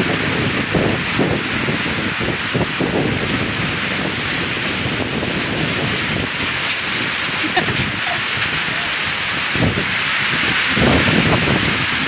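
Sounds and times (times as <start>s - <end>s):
heavy rain pouring: 0.0s - 12.0s
wind gusting against microphone: 0.0s - 12.0s.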